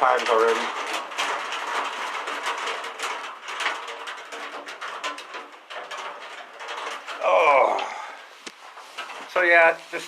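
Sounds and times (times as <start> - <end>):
rain on a roof: 0.0 - 10.0.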